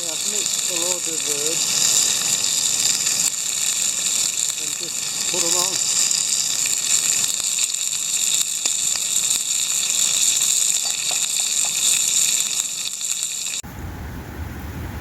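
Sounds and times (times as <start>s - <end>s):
meat sizzling in a frying pan: 0.0s - 13.6s.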